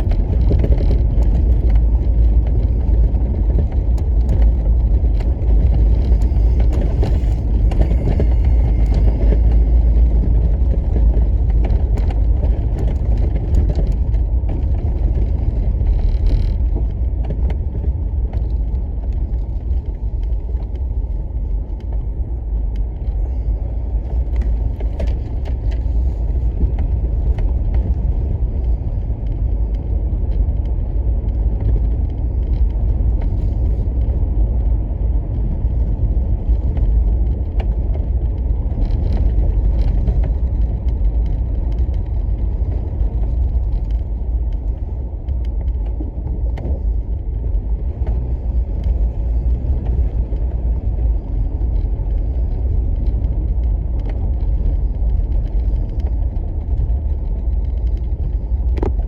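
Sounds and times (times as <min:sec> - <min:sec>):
car driving engine and road noise: 0:00.0 - 0:59.0.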